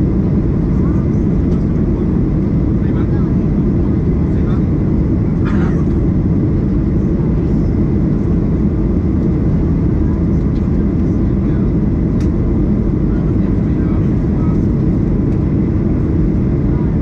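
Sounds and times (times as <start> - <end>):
jet engine cabin rumble: 0.0 - 17.0.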